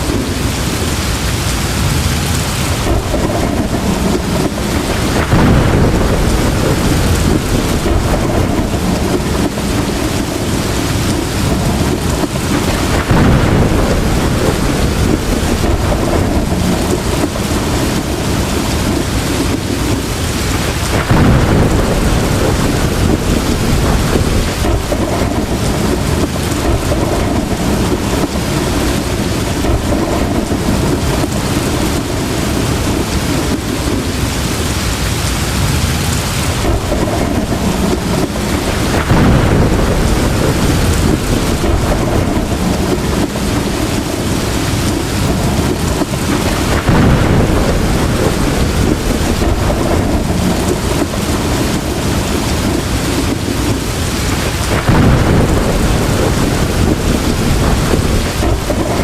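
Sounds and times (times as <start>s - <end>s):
heavy rain pouring: 0.0s - 59.0s
low thunder rumbles: 0.0s - 59.0s.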